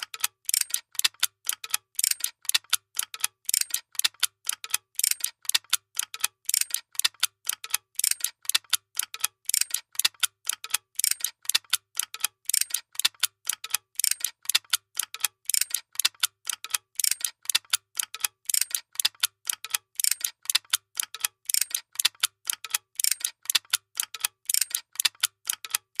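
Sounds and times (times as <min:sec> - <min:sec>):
machine mechanical clicking: 0:00.0 - 0:26.0.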